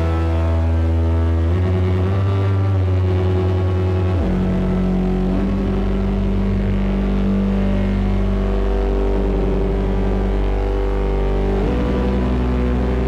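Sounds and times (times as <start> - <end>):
distorted synthesizer drone: 0.0 - 13.0.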